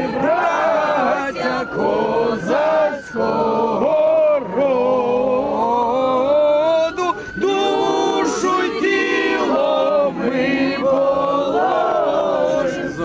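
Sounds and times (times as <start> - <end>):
group singing unaccompanied chant: 0.0 - 13.0.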